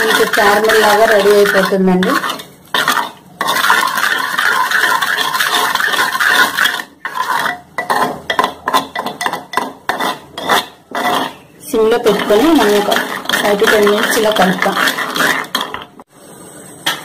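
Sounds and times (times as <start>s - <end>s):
spoon scraping a clay pot: 0.0s - 16.0s.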